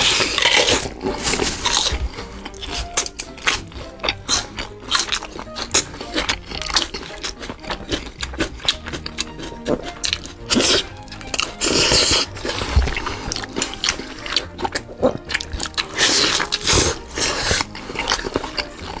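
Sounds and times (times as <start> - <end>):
background music: 0.0 - 19.0
crispy food chewed: 0.0 - 19.0
noodles slurped: 0.0 - 19.0.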